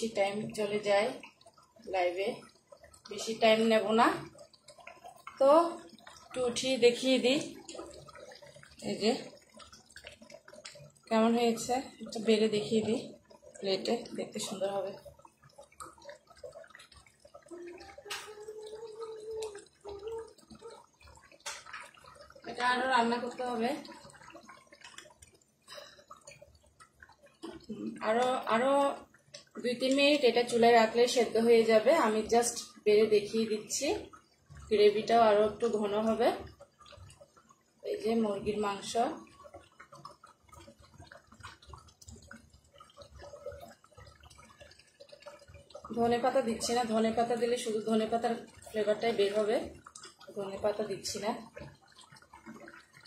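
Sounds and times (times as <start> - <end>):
dripping liquid: 0.0 - 53.0
gravy bubbling in a pan: 0.0 - 53.0.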